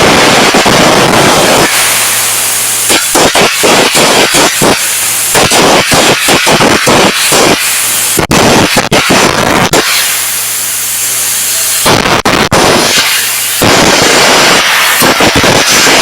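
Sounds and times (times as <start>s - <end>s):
carbon arc gouging crackling hiss: 0.0s - 16.0s.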